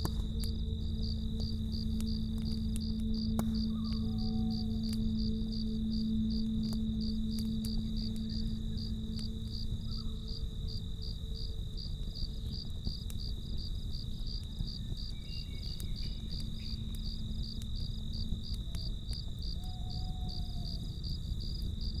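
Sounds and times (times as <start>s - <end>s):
campfire crackling and popping: 0.0s - 22.0s
crickets chirping: 0.0s - 22.0s.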